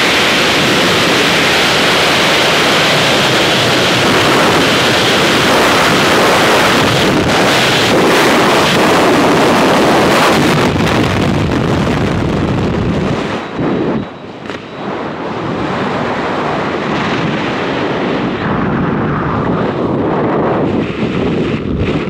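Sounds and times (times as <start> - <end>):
freefall wind rushing: 0.0 - 22.0.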